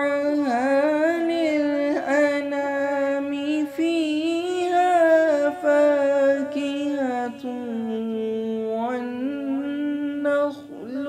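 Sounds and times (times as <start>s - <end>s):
person chanting quran recitation: 0.0s - 11.0s.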